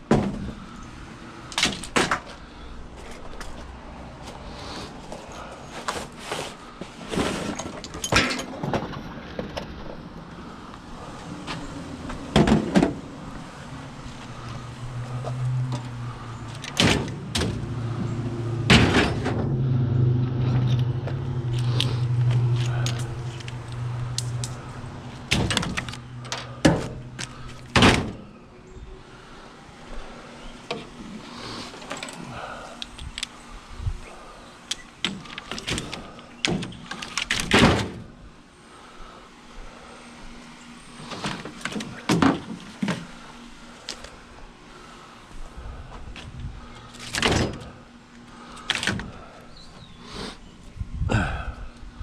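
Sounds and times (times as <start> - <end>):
low steady hum: 5.0 - 52.0.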